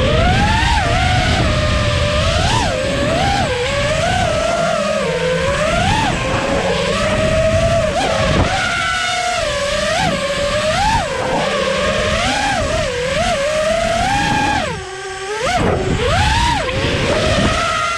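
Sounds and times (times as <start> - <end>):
drone motors whining: 0.0 - 17.9
wind rush on microphone: 0.0 - 17.9.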